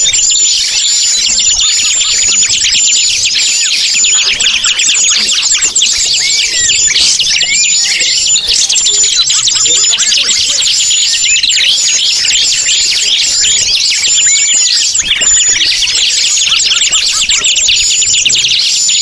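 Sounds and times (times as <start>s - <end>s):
small forest birds chirping: 0.0s - 19.0s.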